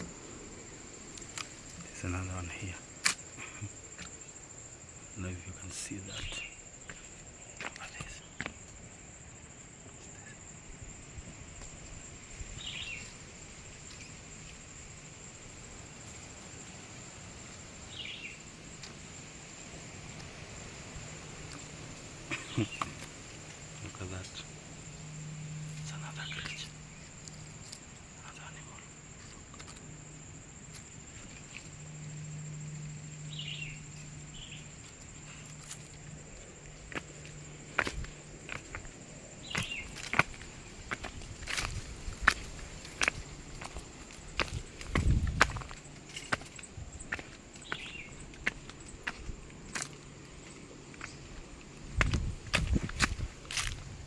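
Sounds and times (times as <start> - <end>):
high-pitched insect drone: 0.0 - 54.0
low rumble of wind: 0.0 - 54.0.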